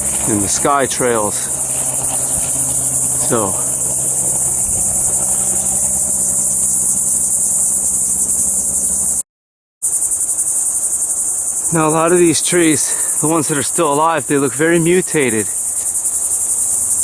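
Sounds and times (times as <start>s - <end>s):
crickets chirping chorus: 0.0s - 9.2s, 9.8s - 17.0s.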